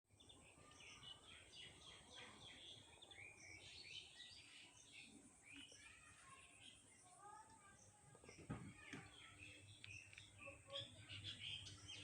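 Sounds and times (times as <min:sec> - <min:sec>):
faint birdsong: 0:00.1 - 0:12.0.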